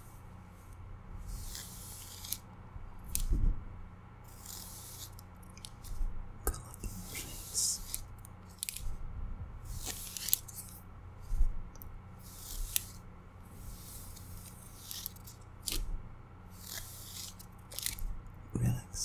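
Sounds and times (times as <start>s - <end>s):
faux fur rustling: 0.0s - 3.6s, 4.2s - 18.2s.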